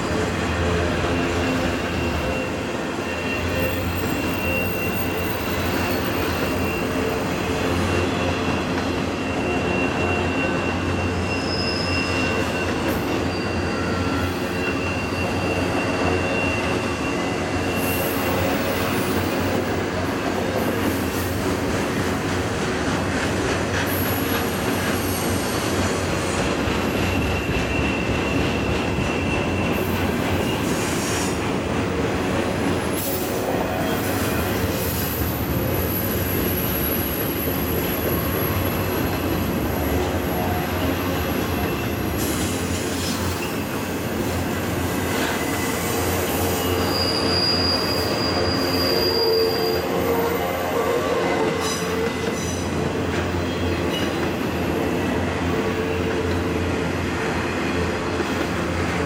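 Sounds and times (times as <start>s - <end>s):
freight train wheels rumbling on rail: 0.0s - 59.0s
high wheel squeal: 0.8s - 21.5s, 23.8s - 31.4s, 32.6s - 56.6s.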